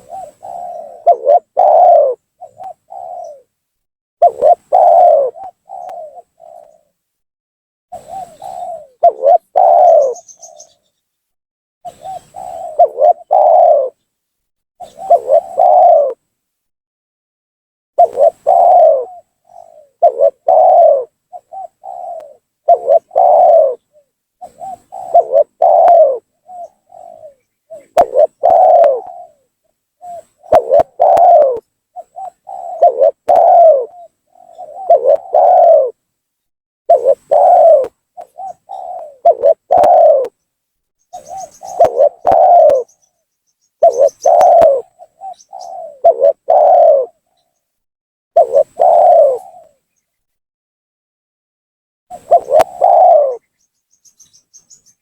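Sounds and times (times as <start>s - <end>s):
dove cooing: 0.0s - 3.6s, 4.2s - 7.0s, 7.9s - 11.0s, 11.8s - 14.0s, 14.8s - 16.2s, 18.0s - 36.0s, 36.9s - 40.4s, 41.1s - 43.2s, 43.8s - 47.6s, 48.4s - 50.0s, 52.1s - 55.0s.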